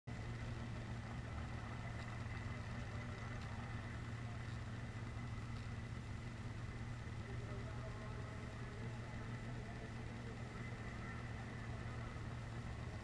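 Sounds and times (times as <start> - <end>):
engine idling drone: 0.1 - 13.0
faint high whine: 0.1 - 13.0.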